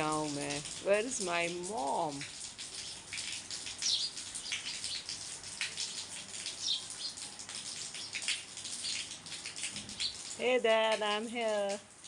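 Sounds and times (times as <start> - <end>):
water droplets pattering: 0.0 - 12.0.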